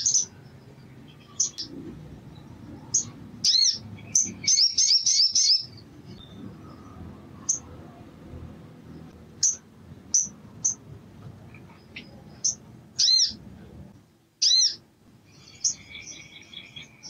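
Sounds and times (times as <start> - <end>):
bird chirping: 0.0 - 10.9, 11.5 - 13.4, 14.4 - 17.0.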